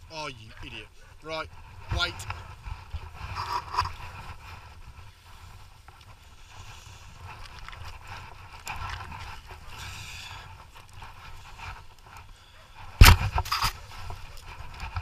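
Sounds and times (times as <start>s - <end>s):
camera movement rumble: 0.4s - 15.0s.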